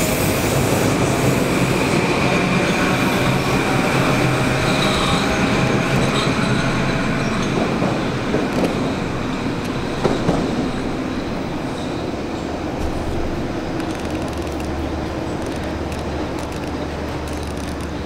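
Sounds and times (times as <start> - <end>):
electric train high whine: 0.0 - 18.0
train rumble: 0.0 - 18.0.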